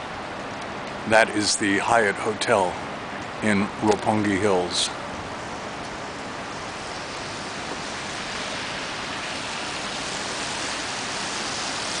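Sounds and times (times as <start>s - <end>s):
street ambience hiss: 0.0s - 12.0s.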